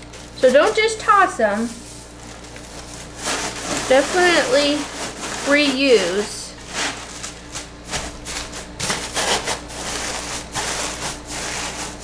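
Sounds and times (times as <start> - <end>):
paper shred rustling and crackling: 0.0 - 12.0.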